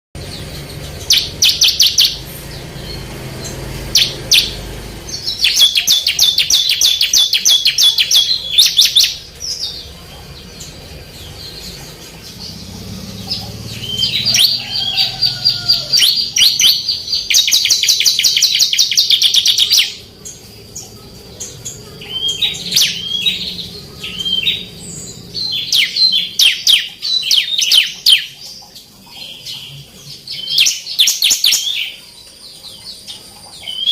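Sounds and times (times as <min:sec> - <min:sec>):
bird singing rapid high chirps: 0:00.2 - 0:33.9.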